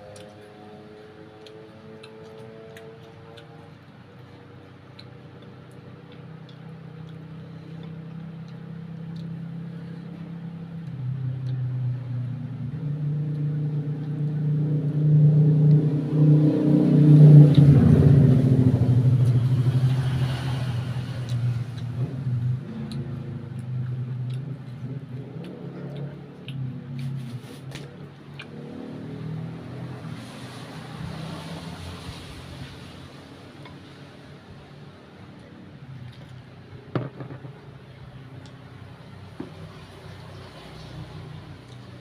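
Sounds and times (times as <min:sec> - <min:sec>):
vehicle engine passing by: 0:00.0 - 0:42.0.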